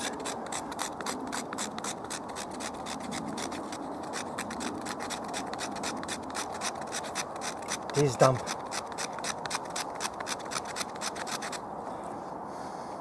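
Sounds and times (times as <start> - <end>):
knife scraping bark: 0.0 - 11.6.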